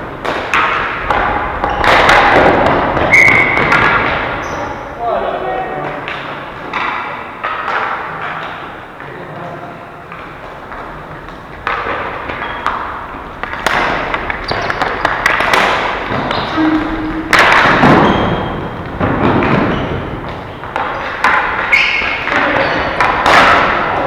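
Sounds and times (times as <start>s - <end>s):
hockey sticks clacking: 0.0s - 4.8s, 5.8s - 9.4s, 10.0s - 24.0s
thumps against rink boards: 0.2s - 4.5s, 5.8s - 9.1s, 10.1s - 24.0s.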